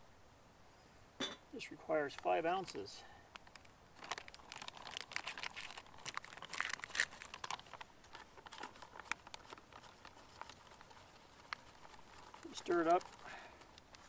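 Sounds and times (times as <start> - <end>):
plastic pouch crinkling: 2.2 - 14.0.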